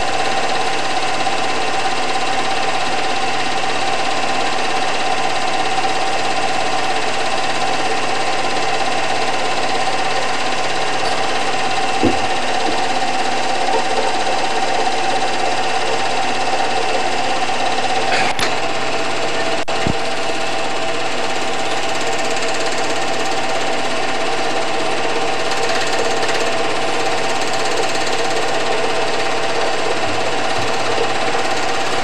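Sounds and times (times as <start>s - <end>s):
projector whine: 0.0s - 32.0s
movie projector clattering: 0.2s - 32.0s.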